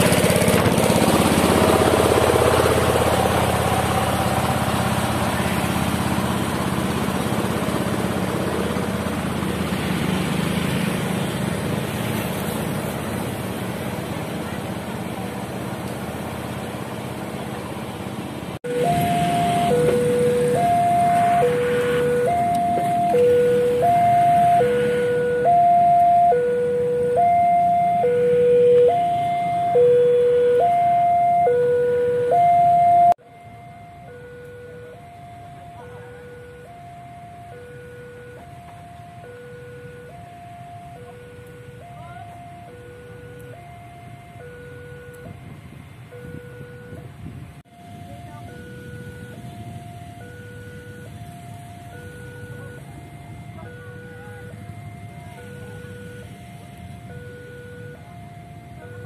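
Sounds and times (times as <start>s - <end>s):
two-tone crossing alarm: 0.0s - 16.3s, 18.6s - 59.0s.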